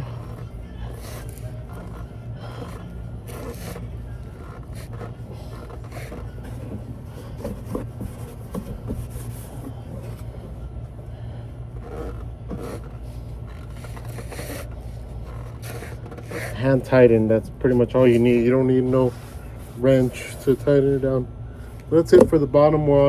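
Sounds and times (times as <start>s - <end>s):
oil filter spun on by hand: 0.0s - 10.6s, 11.8s - 20.8s
steady low hum: 0.0s - 23.0s.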